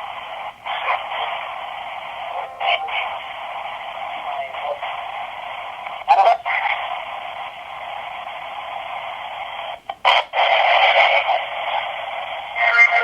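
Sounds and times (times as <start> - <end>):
crackly static burst: 0.0 - 13.0
radio static hiss: 0.0 - 13.0.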